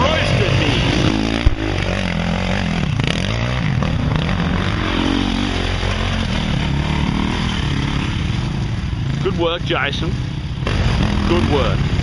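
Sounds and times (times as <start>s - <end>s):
trail bike engines revving: 0.0s - 12.0s.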